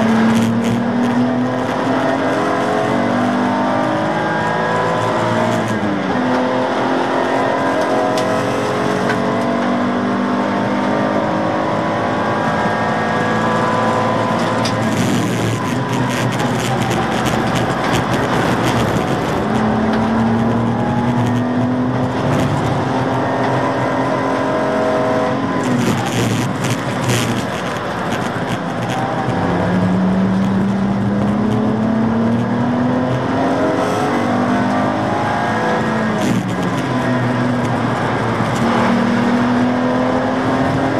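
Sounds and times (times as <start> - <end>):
race car engine accelerating: 0.0 - 40.9
road and wind noise: 0.0 - 40.9.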